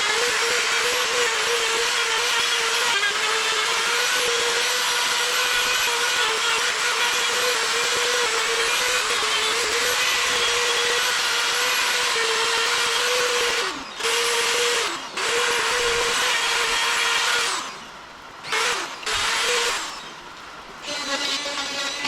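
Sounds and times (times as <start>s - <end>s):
power tool motor running: 0.0s - 20.2s, 20.8s - 22.0s.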